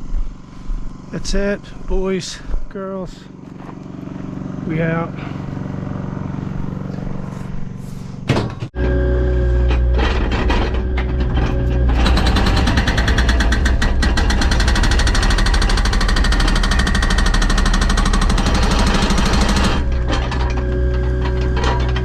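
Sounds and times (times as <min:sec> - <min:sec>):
machine engine hum: 0:00.0 - 0:22.0.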